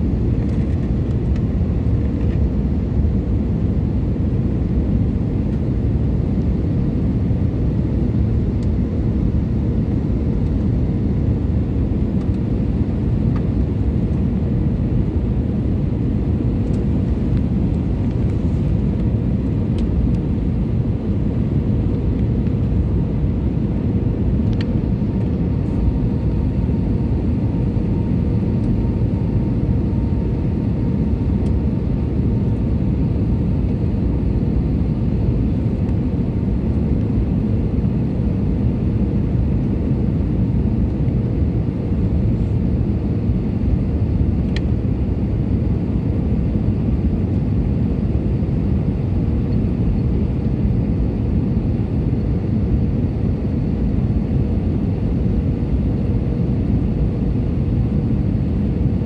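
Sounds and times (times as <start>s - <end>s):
faint steady hum: 0.0s - 59.0s
jet engines and airflow rumble: 0.0s - 59.0s.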